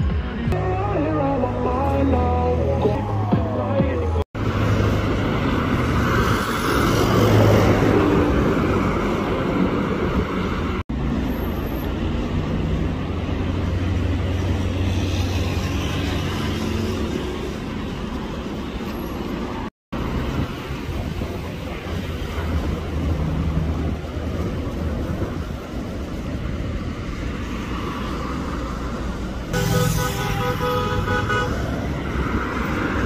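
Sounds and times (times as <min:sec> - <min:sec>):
tyres on road: 0:00.0 - 0:33.0.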